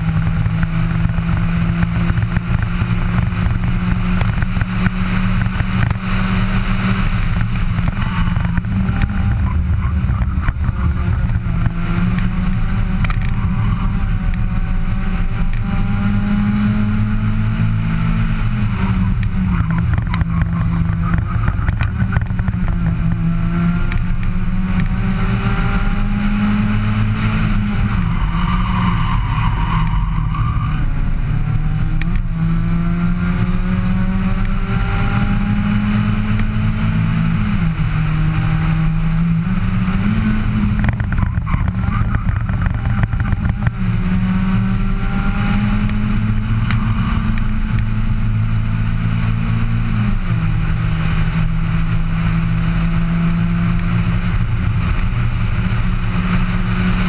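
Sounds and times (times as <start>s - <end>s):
race car engine revving through gears: 0.0s - 57.0s
road noise: 0.0s - 57.0s
wind noise: 0.0s - 57.0s.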